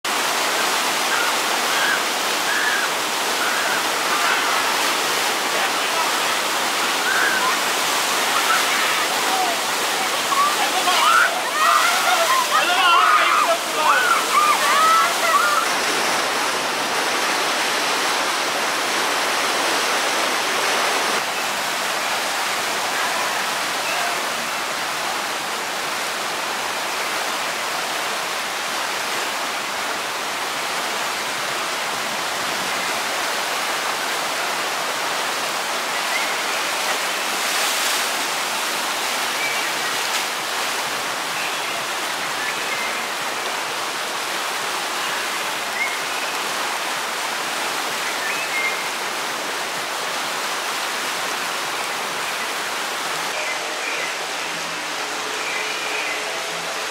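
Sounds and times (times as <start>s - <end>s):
white water rushing: 0.0s - 56.9s.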